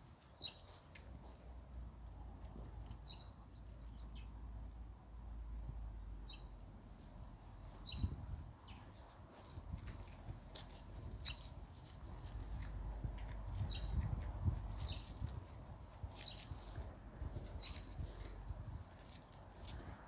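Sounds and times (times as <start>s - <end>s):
small birds chirping: 0.0s - 1.6s, 2.4s - 4.6s, 5.4s - 20.0s.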